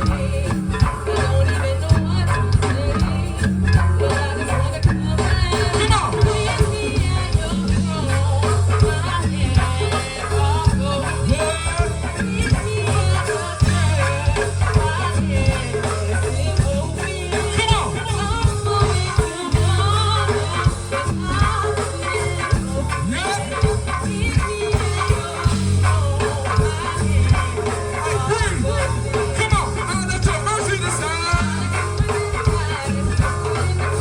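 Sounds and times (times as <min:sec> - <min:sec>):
bass line: 0:00.0 - 0:34.0
drum beat: 0:00.0 - 0:34.0
gospel band playing: 0:00.0 - 0:34.0
person singing: 0:00.0 - 0:34.0.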